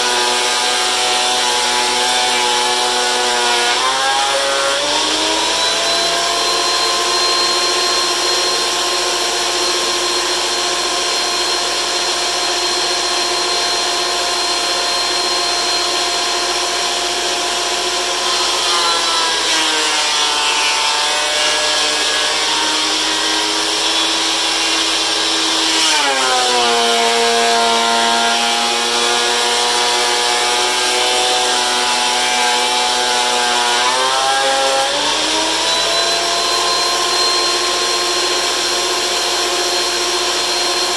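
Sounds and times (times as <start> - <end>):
thickness planer motor whine: 0.0 - 40.9.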